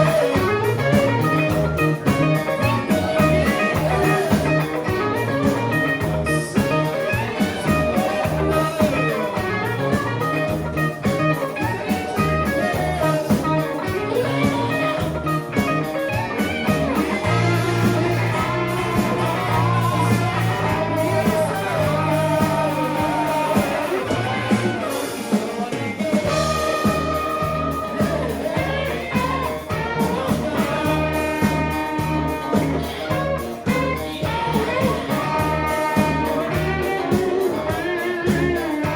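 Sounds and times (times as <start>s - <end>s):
bass and drums: 0.0s - 38.9s
guitar-led rock music: 0.0s - 38.9s.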